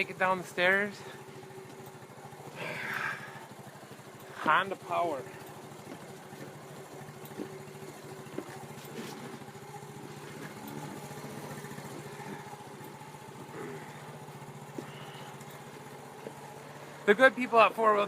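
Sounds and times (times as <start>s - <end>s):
snowmobile engine puttering: 0.0s - 18.0s.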